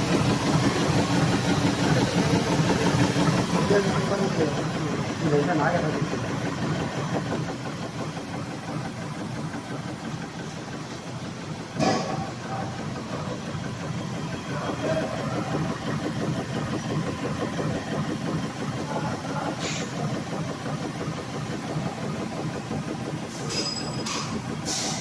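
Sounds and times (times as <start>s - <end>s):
drilling machine chatter: 0.0s - 10.1s, 11.3s - 25.0s.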